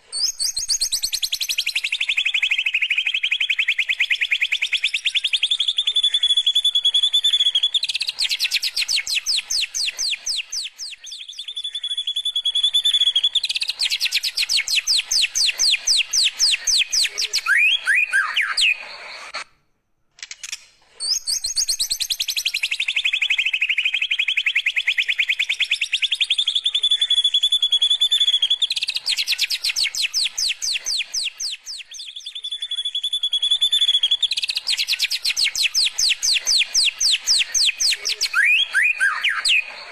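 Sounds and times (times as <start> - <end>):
bird whistles and trills: 0.0 - 19.4, 21.0 - 39.9.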